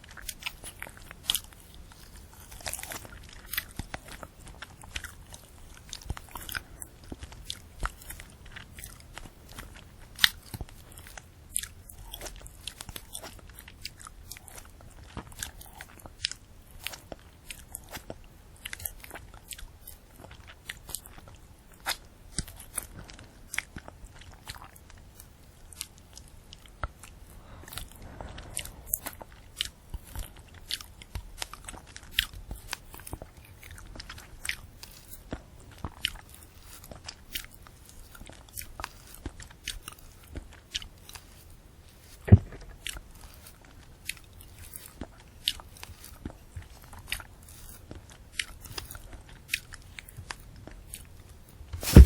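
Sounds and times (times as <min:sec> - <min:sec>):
candy apple crunching: 0:00.0 - 0:52.0.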